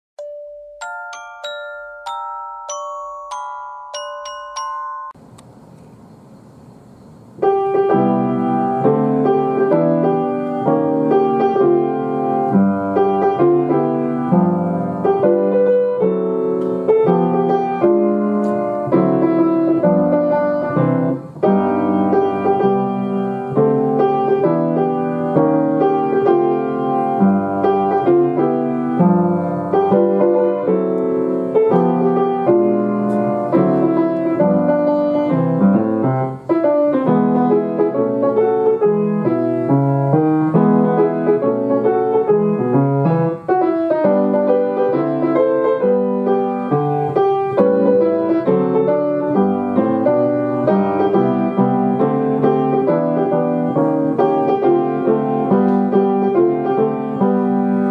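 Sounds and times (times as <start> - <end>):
piano music: 0.2 - 5.4, 7.4 - 57.9.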